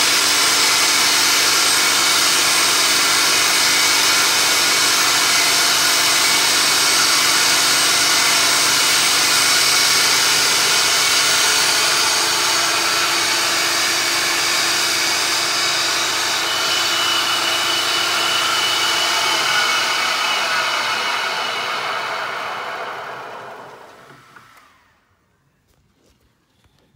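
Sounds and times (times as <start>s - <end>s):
milling machine cutting whine: 0.0s - 24.8s.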